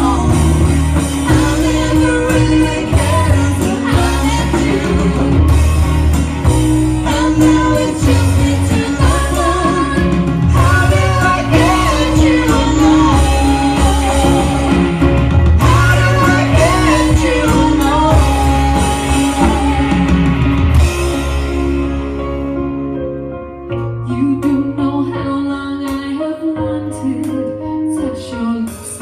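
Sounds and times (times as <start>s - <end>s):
rock music with singer: 0.0s - 29.0s.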